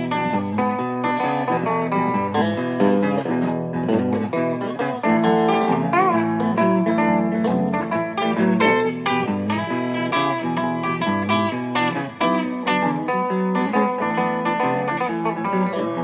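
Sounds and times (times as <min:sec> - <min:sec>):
plucked string blues tune: 0:00.0 - 0:16.0.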